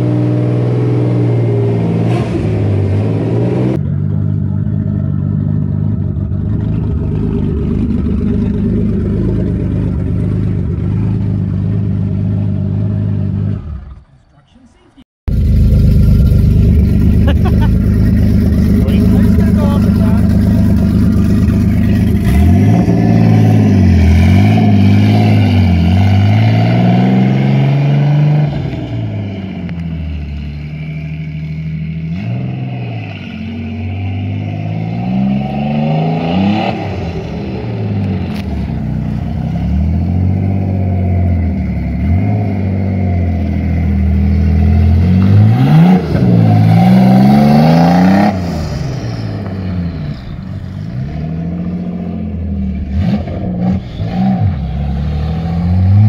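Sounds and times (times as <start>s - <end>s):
car engine revving: 0.0s - 14.2s, 15.3s - 56.0s.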